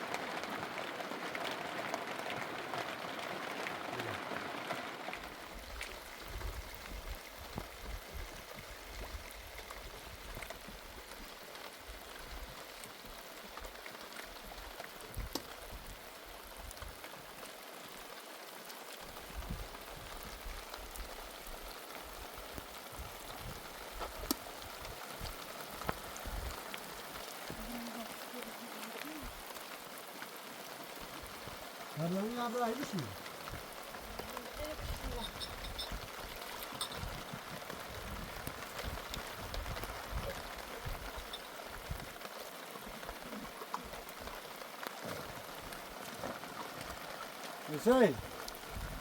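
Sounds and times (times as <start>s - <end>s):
raindrops ticking: 0.0s - 49.0s
steady rain falling: 0.0s - 49.0s.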